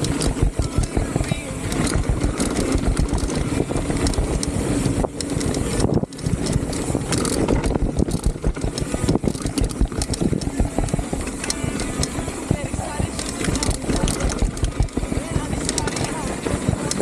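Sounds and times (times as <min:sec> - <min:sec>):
mountain bike rattling over trail: 0:00.0 - 0:17.0
wind buffeting microphone: 0:00.0 - 0:17.0.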